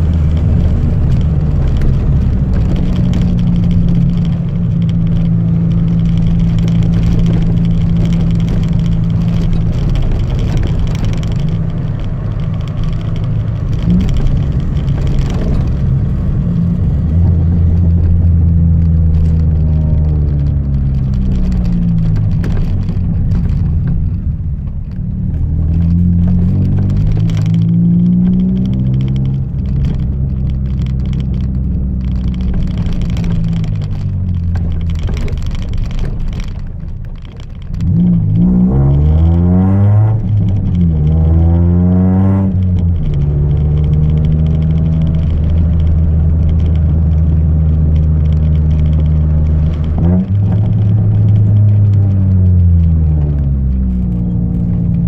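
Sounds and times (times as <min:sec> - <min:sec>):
car engine droning and revving: 0:00.0 - 0:55.0.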